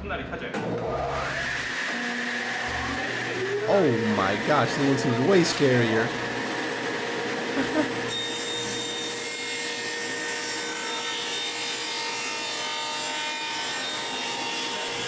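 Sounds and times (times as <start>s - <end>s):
table saw cutting wood: 0.8s - 15.0s.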